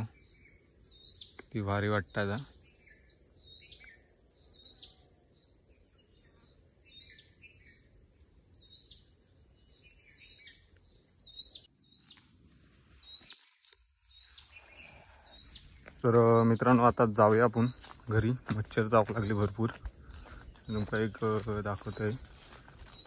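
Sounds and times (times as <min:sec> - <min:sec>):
crickets droning: 0:00.0 - 0:23.0.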